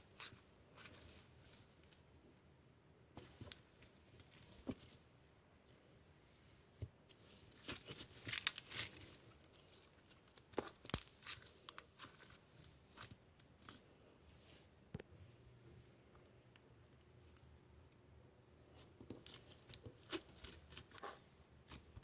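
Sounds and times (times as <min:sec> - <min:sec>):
rustling and crinkling: 0:00.0 - 0:02.0, 0:03.1 - 0:16.2, 0:18.6 - 0:22.0.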